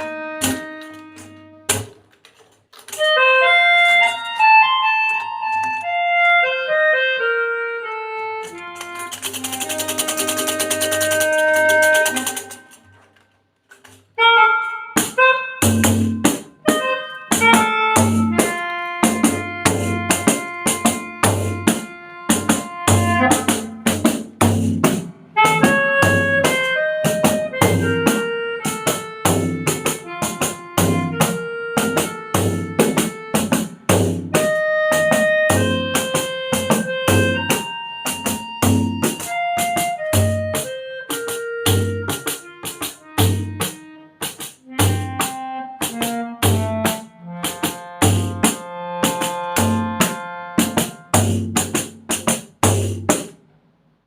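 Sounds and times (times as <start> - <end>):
backing track with drum beat: 0.0 - 2.1, 8.4 - 12.8, 14.1 - 53.4
melodica melody: 0.0 - 52.3.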